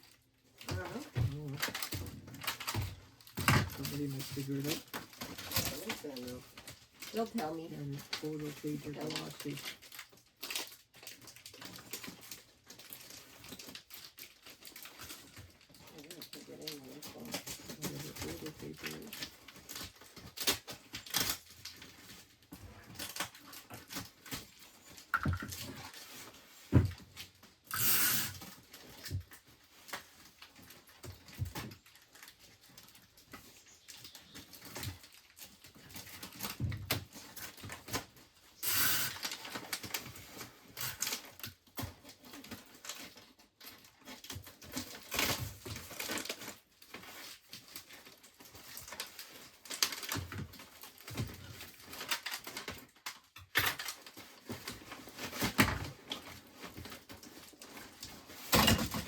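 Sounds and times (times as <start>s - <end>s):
items clicking and knocking: 0.0s - 59.0s
rustling: 0.0s - 59.0s.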